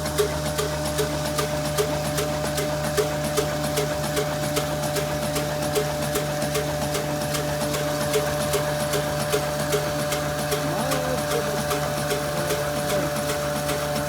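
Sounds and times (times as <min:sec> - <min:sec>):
diesel engine knocking: 0:00.0 - 0:14.0.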